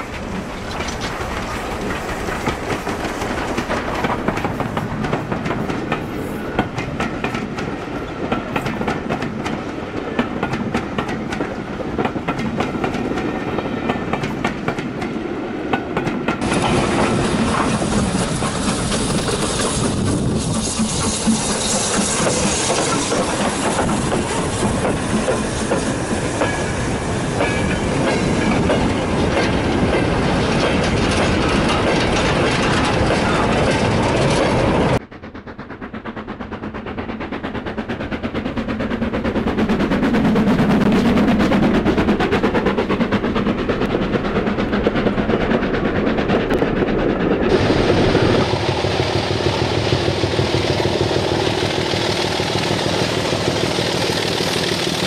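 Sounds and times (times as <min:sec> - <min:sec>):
model train wheels clicking: 0:00.0 - 0:13.3, 0:13.9 - 0:55.0
model train approaching: 0:00.0 - 0:55.0.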